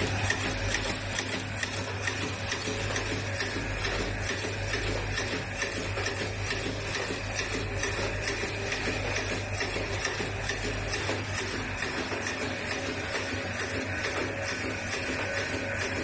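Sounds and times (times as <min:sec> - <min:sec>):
low motor hum: 0:00.0 - 0:16.0
machine clattering: 0:00.0 - 0:16.0.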